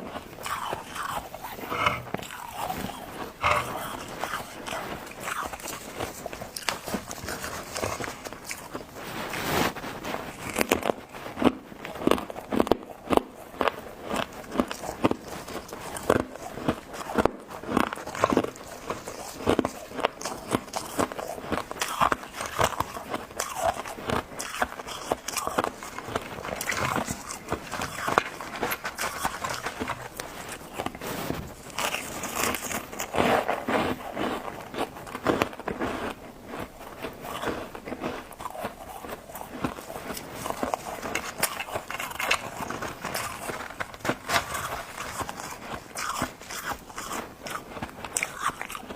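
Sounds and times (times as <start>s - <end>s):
ice being bitten and chewed: 0.0s - 48.9s.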